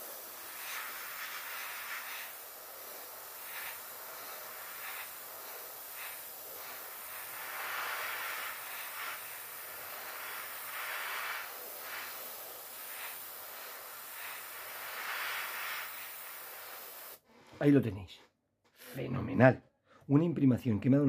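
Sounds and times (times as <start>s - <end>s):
airbrush spraying hiss: 0.0s - 17.2s.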